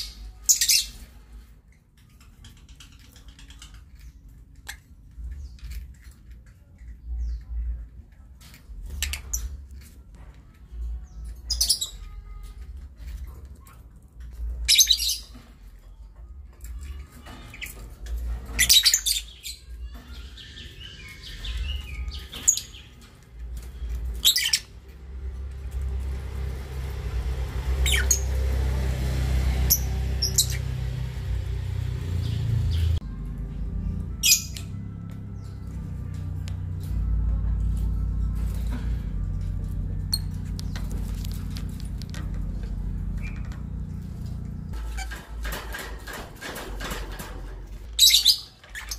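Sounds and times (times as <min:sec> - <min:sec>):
lovebirds chirping: 0:00.0 - 0:33.1, 0:33.9 - 0:45.9, 0:46.9 - 0:48.9.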